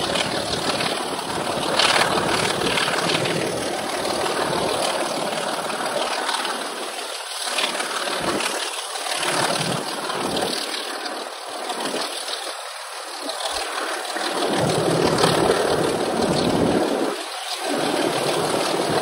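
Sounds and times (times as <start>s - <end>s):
wind buffeting microphone: 0.0s - 10.7s, 13.3s - 19.0s.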